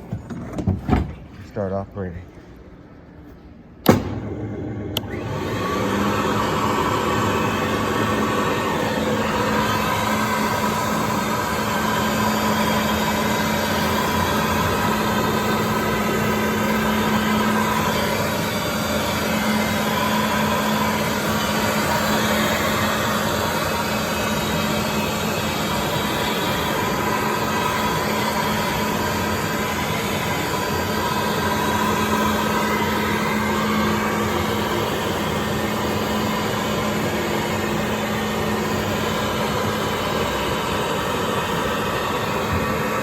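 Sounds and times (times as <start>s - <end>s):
floor-care machine running: 3.8s - 43.0s.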